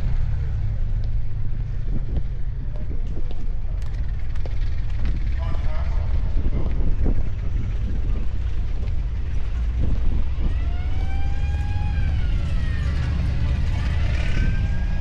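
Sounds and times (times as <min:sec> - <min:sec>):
tank diesel engine rumbling: 0:00.0 - 0:15.0.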